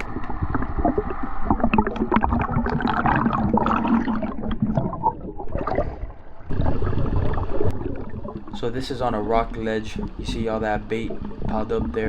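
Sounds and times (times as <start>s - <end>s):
low steady hum: 0.0s - 12.0s
water gurgling and bubbling: 0.0s - 12.0s.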